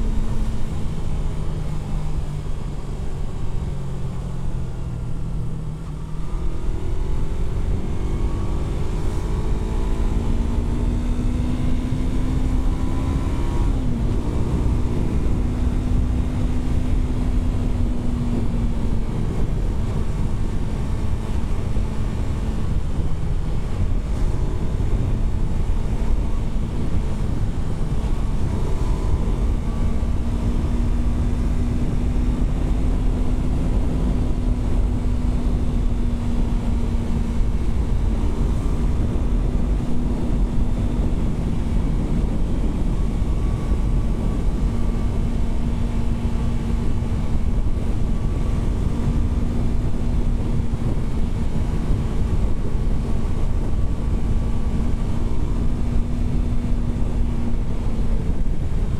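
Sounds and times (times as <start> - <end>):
motorcycle engine accelerating: 0.0 - 58.9
wind rumble: 6.1 - 58.9.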